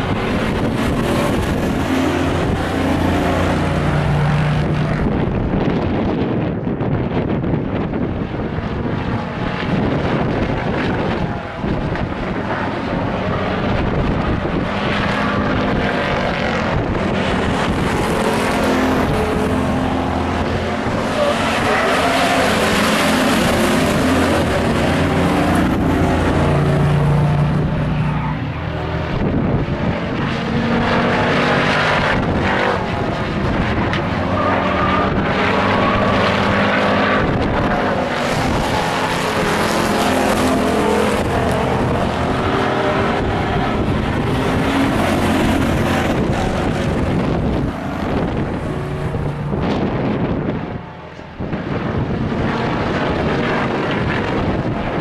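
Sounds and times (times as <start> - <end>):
racing truck engines: 0.0 - 55.0.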